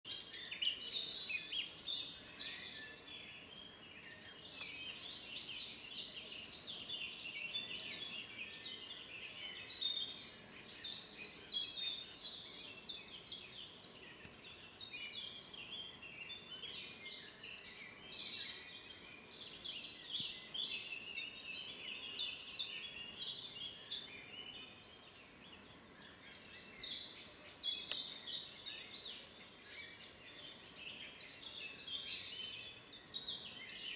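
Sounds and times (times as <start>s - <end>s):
songbirds chorus: 0.1s - 33.9s.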